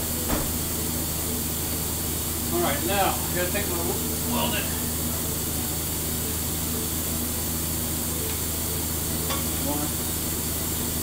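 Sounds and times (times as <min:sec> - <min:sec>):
low electrical hum: 0:00.0 - 0:11.0
welding arc sizzling and crackling: 0:00.0 - 0:11.0.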